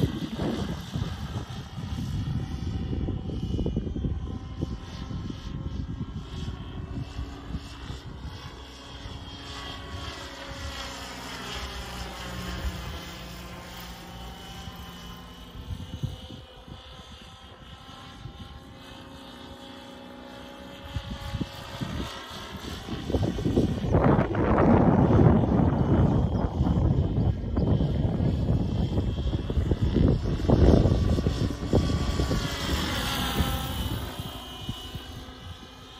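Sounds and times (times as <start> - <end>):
wind gusts on microphone: 0.0 - 19.7, 20.3 - 35.9
rc helicopter rotor whine: 0.0 - 35.9.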